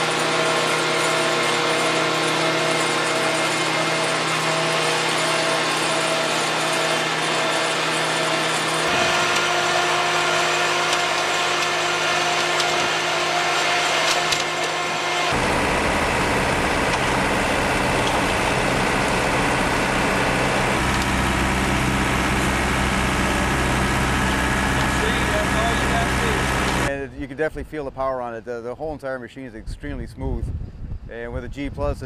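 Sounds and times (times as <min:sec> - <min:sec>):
concrete mixer truck: 0:00.0 - 0:26.9
curb machine running: 0:00.0 - 0:26.9
deep rumbling curb machine: 0:00.0 - 0:26.9.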